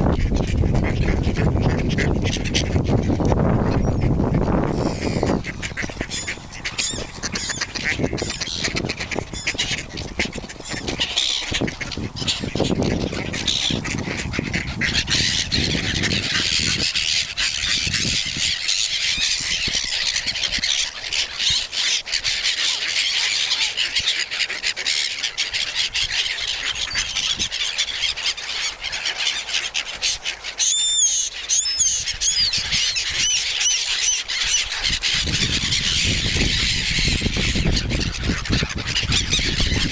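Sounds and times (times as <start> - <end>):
swans and ducks calling: 0.0 - 39.9
high squealing calls: 0.4 - 39.9.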